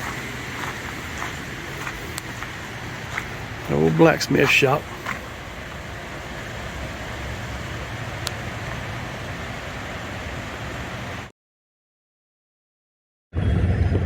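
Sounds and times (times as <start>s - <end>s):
outdoor background rush: 0.0s - 11.3s.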